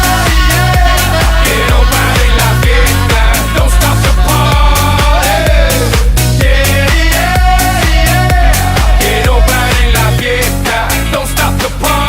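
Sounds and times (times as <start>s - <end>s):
pop dance music with vocals: 0.0s - 12.0s.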